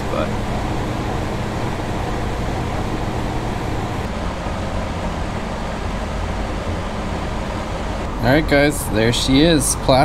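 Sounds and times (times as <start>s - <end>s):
fan motor humming and whooshing: 0.0s - 10.0s
low electrical hum: 0.0s - 10.0s.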